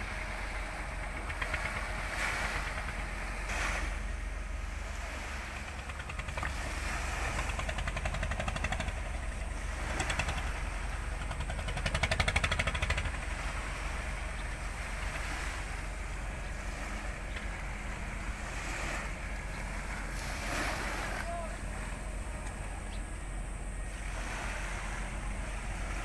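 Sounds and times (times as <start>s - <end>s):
ship engines rumbling: 0.0s - 26.0s
water: 0.0s - 26.0s
wind: 0.0s - 26.0s.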